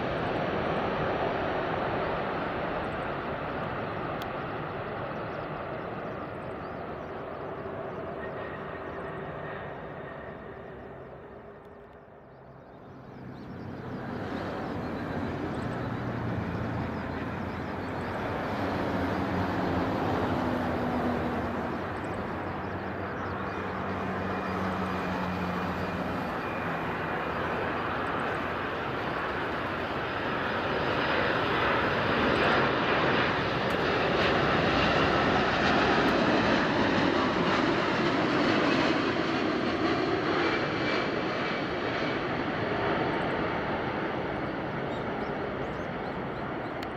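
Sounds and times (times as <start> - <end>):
jet engine rush: 0.0 - 46.9
faint held engine tones: 5.0 - 46.9.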